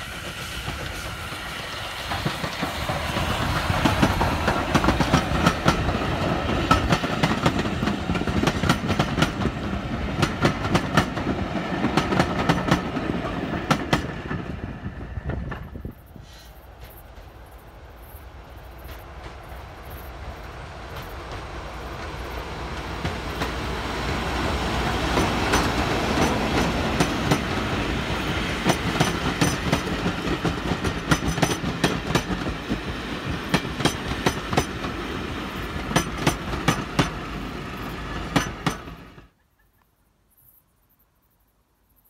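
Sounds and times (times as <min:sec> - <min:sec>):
train wheels clicking over rail joints: 0:00.0 - 0:39.3
passenger train passing: 0:00.0 - 0:39.4.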